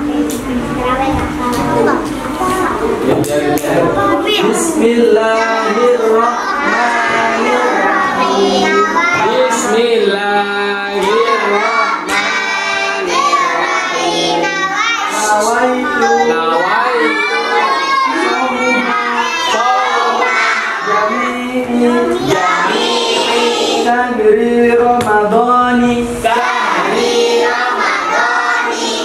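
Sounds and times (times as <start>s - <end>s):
children singing: 3.0s - 25.2s, 26.1s - 29.0s.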